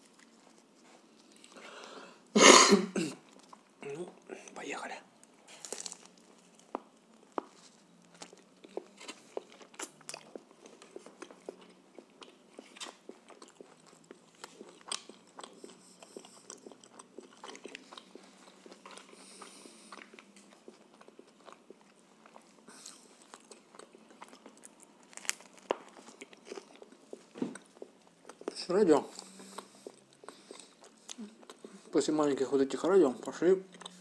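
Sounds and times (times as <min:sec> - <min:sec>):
man chewing: 0:00.0 - 0:02.3, 0:05.6 - 0:31.9, 0:33.2 - 0:34.0.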